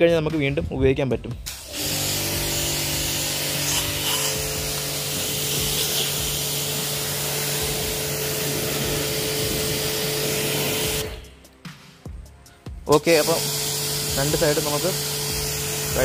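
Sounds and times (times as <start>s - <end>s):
high-pressure water jet hissing: 1.5s - 11.4s, 12.9s - 16.0s
pressure washer motor hum: 1.5s - 11.4s, 12.9s - 16.0s.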